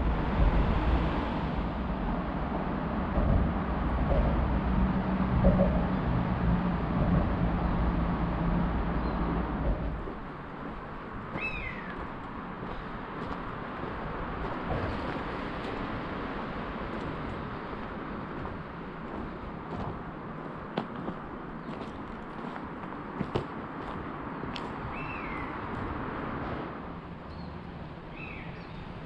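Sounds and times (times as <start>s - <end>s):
low rumble of traffic: 0.0s - 29.0s.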